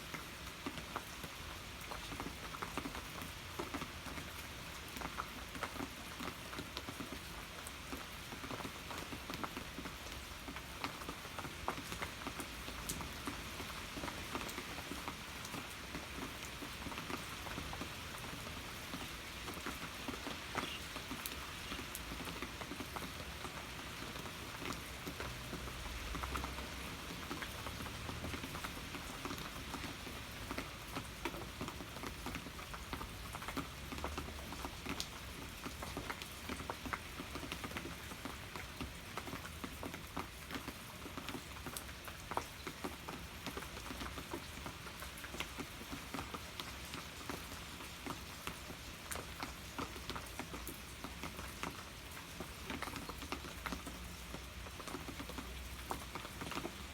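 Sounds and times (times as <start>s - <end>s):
raindrops pattering on a surface: 0.0s - 56.9s
steady rain hiss: 0.0s - 56.9s.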